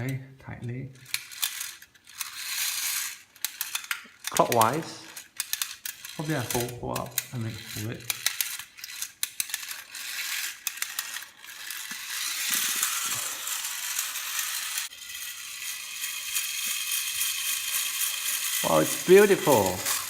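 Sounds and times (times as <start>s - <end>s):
clockwork whirring: 1.0s - 20.0s
wind-up key clicks: 1.0s - 20.0s.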